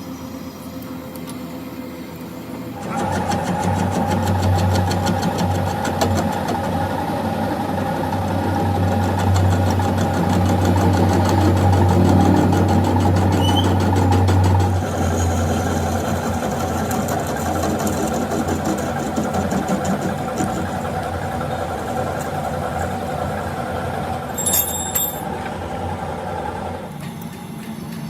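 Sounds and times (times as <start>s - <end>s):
workshop machine humming: 0.0s - 28.0s.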